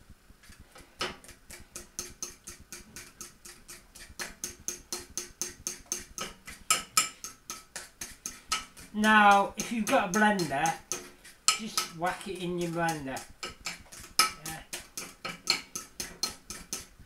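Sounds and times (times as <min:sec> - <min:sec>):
fork beating batter in a bowl: 0:00.4 - 0:17.0.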